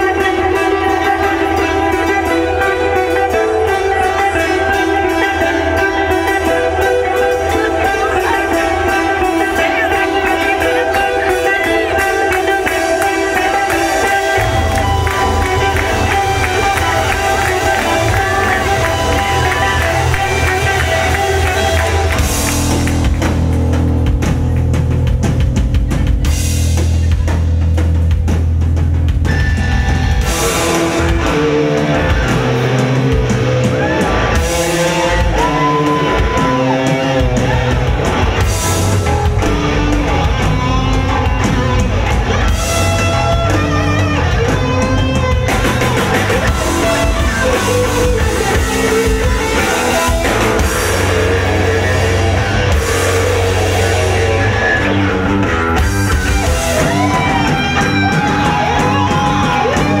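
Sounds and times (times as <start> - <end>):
bass guitar: 0.0 - 60.0
drum kit: 0.0 - 60.0
electric guitar: 0.0 - 60.0.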